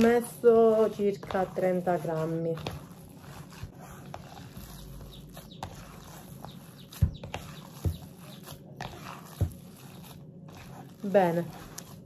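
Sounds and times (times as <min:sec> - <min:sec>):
hands kneading wet minced meat: 0:00.0 - 0:12.0.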